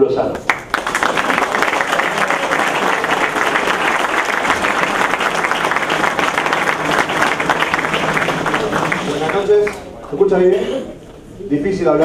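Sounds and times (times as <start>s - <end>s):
audience applauding: 0.5s - 10.2s.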